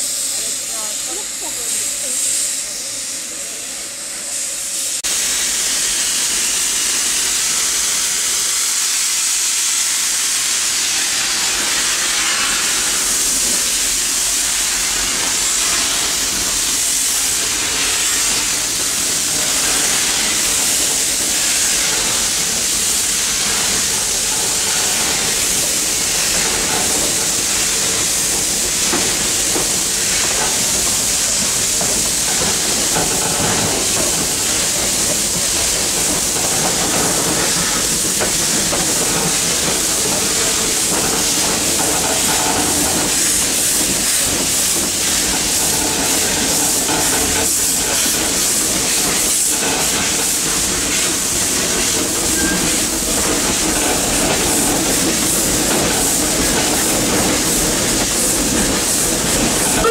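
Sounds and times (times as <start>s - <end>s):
steam locomotive venting steam: 0.0s - 59.9s.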